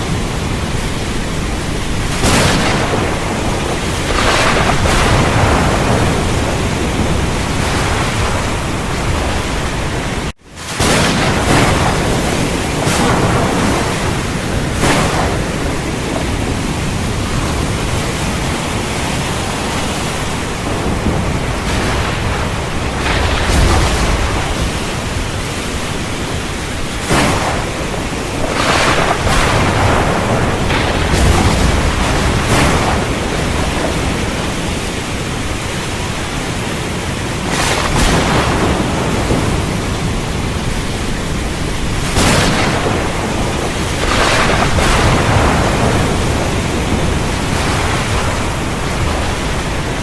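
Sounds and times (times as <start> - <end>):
heavy rain pouring: 0.0 - 50.0
low thunder rumble: 0.0 - 50.0.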